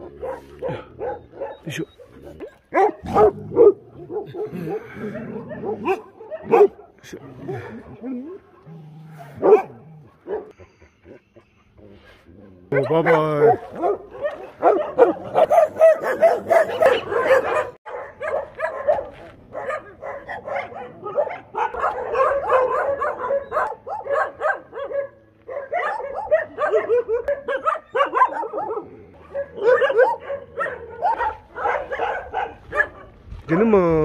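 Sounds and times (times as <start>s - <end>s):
dogs barking and yelping: 0.0s - 33.3s.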